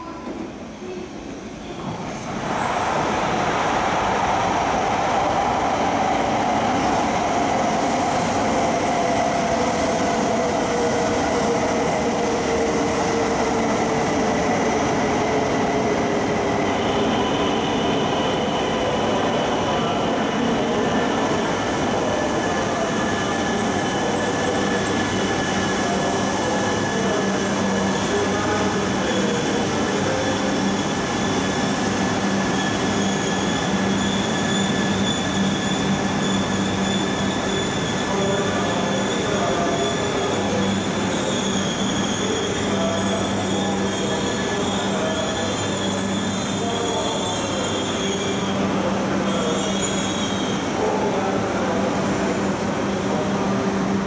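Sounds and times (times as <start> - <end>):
high squealing tones of train: 0.0 - 54.0.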